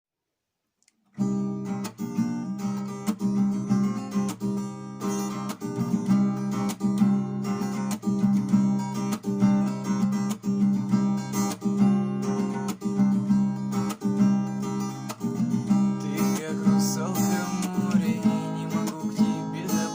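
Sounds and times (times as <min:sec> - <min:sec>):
acoustic guitar strumming: 0:01.2 - 0:19.9.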